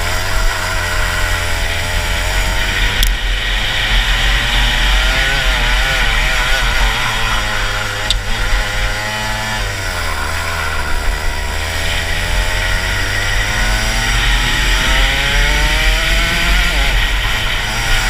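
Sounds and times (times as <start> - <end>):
kart engine running hard: 0.0 - 18.0.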